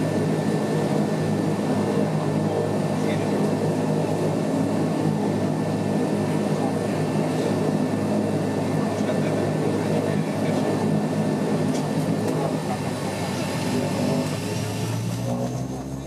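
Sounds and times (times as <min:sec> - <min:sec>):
turboprop engine and propeller drone: 0:00.0 - 0:16.0.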